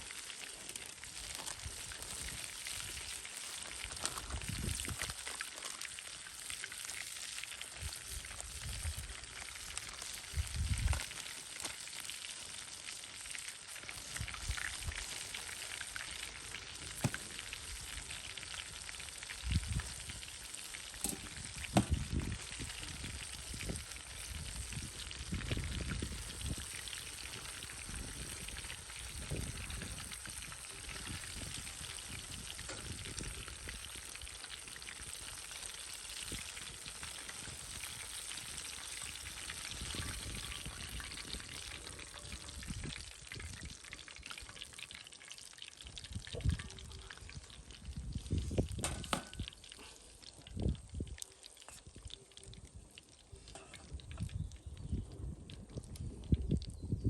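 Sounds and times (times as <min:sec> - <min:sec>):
hot oil sizzling: 0:00.0 - 0:56.3
sharp crackles of frying: 0:00.0 - 0:57.0.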